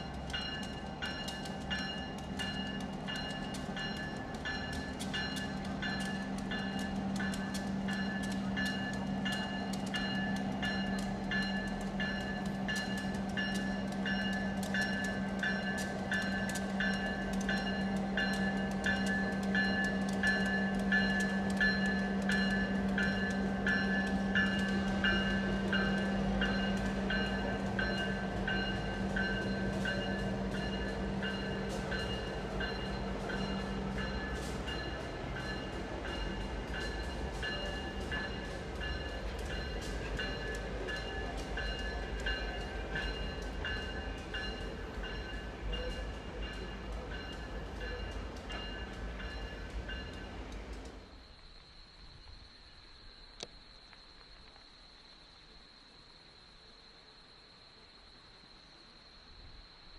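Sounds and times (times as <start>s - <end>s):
train bell ringing: 0.0s - 50.8s
train rumble: 0.0s - 53.4s.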